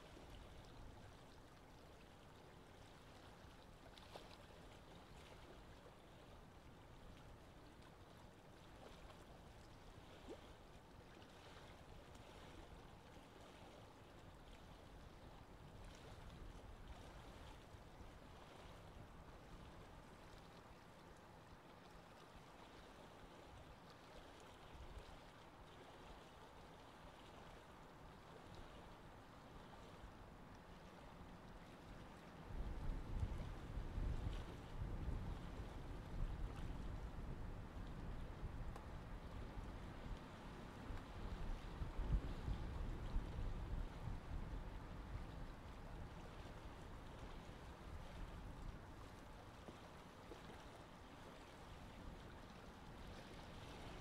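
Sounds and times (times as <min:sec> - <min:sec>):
choppy seawater washing: 0:00.0 - 0:54.0.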